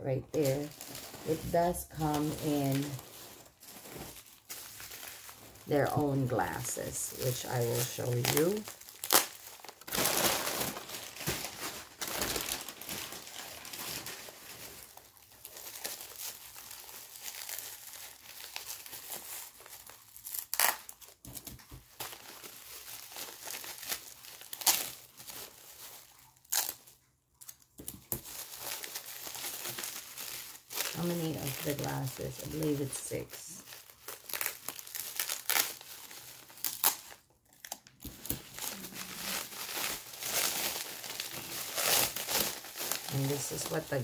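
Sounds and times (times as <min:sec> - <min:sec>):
bubble wrap crinkling: 0:00.0 - 0:44.0
bubble wrap ripping: 0:00.3 - 0:44.0.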